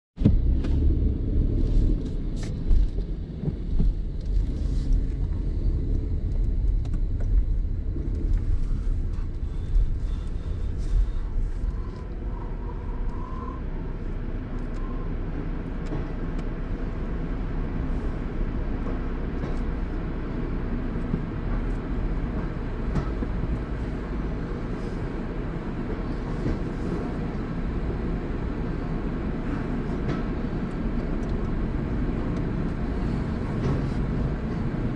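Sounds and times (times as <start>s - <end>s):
car wash equipment rumbling: 0.2s - 34.9s.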